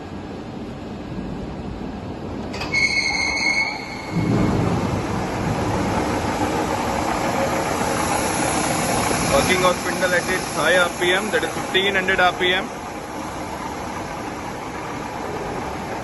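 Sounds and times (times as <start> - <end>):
milling machine whirring: 2.1 - 16.0.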